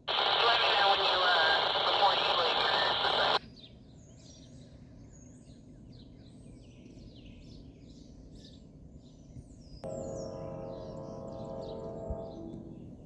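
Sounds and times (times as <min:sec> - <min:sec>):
songbirds chirping: 0:00.1 - 0:13.0.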